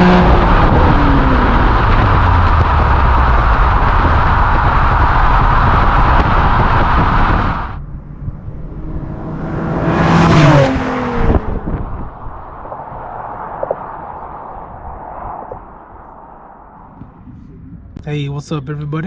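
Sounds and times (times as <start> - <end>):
car exhaust driving past: 0.0 - 18.0.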